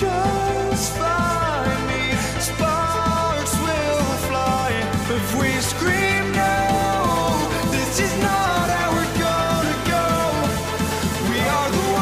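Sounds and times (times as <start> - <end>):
electronic pop music: 0.0 - 12.0.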